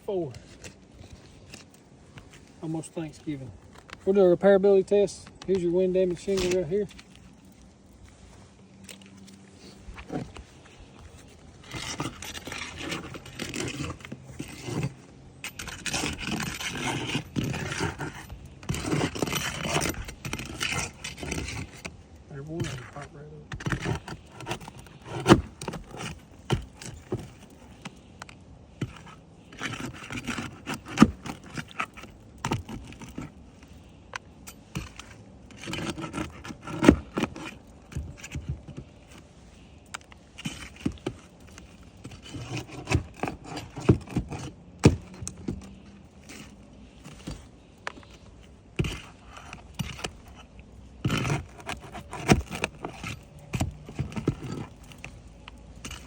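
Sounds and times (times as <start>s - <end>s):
shingles scraping: 0.2s - 56.0s
shingles cracking and clicking: 11.0s - 56.0s.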